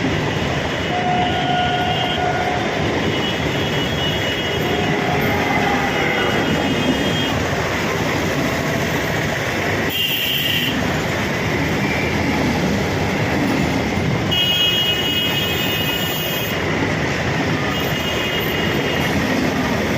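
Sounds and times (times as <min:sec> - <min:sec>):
train rumbling along track: 0:00.0 - 0:19.9.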